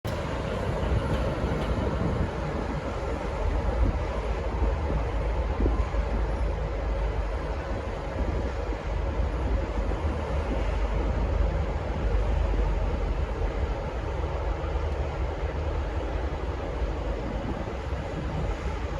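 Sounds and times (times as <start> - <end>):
diesel locomotive rumbling: 0.0 - 18.9.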